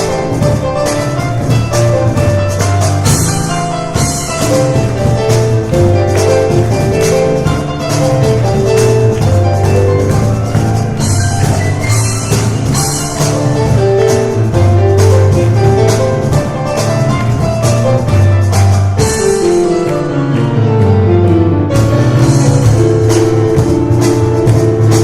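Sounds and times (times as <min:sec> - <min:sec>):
cajon beat: 0:00.0 - 0:25.0
piano playing quick runs: 0:00.0 - 0:25.0.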